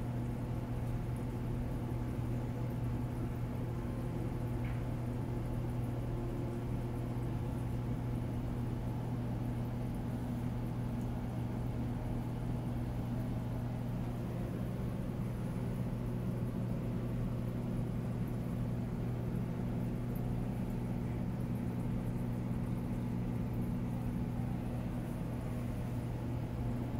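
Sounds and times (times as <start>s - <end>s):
aquarium pump humming: 0.0s - 26.9s.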